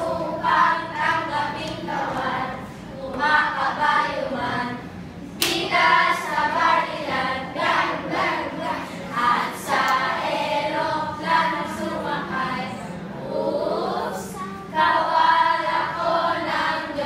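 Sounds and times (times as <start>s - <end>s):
children singing: 0.0s - 4.9s, 5.5s - 17.0s.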